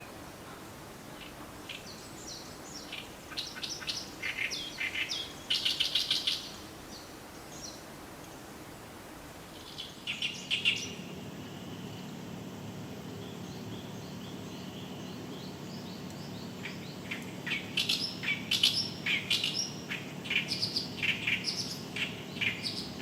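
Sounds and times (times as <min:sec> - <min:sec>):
reed warbler harsh chattering song: 0:00.0 - 0:08.5, 0:09.4 - 0:23.0.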